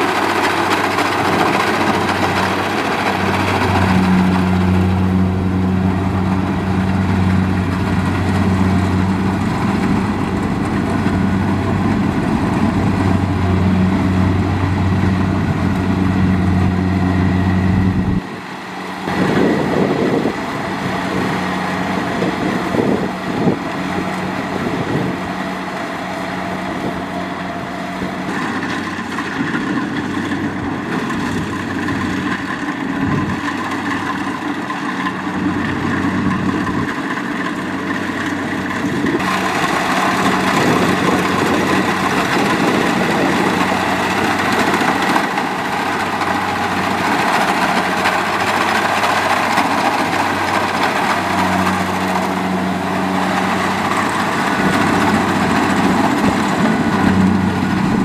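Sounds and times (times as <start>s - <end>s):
combine harvester engine hum: 0.0s - 58.0s
lighter harvester running: 0.0s - 58.0s.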